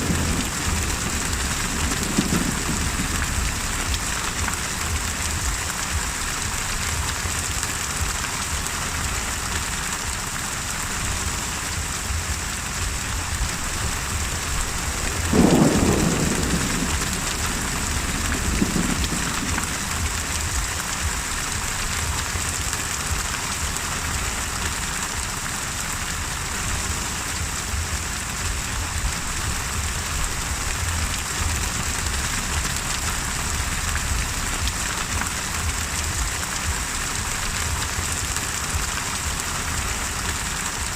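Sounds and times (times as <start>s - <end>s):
thunder clap and rumble: 0.0s - 9.7s, 11.0s - 25.4s, 26.0s - 40.9s
heavy rain hissing: 0.0s - 40.9s.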